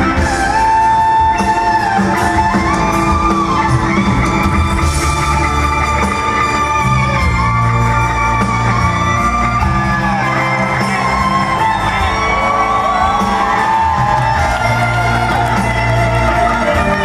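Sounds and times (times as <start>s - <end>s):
electric guitar solo: 0.0s - 17.0s
rock band backing: 0.0s - 17.0s.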